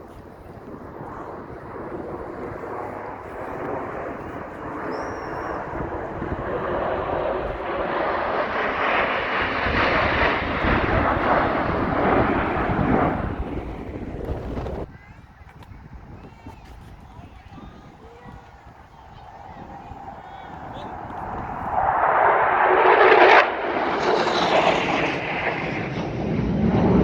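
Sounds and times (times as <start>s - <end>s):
airplane flying past: 0.0s - 14.9s, 17.2s - 27.0s.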